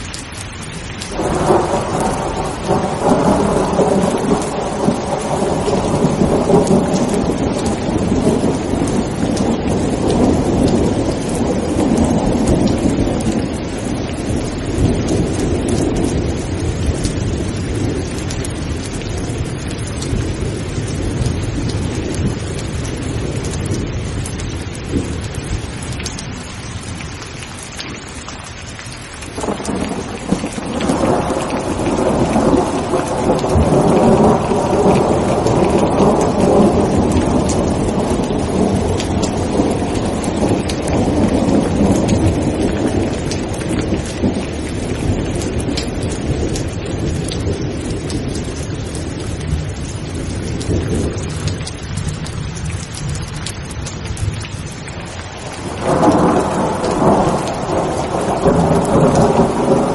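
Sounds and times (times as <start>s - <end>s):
heavy rain: 0.0s - 59.9s
rolling thunder: 1.1s - 27.0s, 29.3s - 59.9s.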